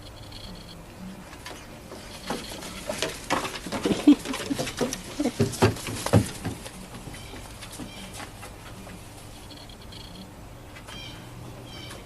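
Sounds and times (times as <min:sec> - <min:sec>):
animals scampering: 0:00.9 - 0:12.0.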